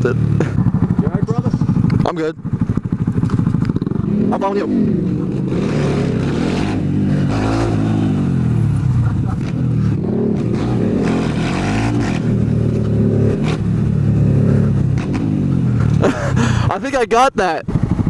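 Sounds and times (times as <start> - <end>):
motorcycle engine shifting gears: 0.0 - 16.7.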